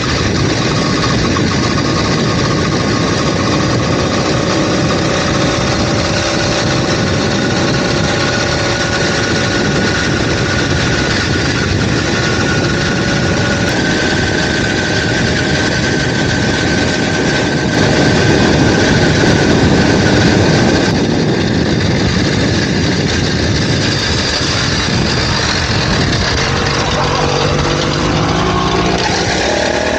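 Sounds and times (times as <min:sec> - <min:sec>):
two-stroke bicycle engine running: 0:00.0 - 0:29.9.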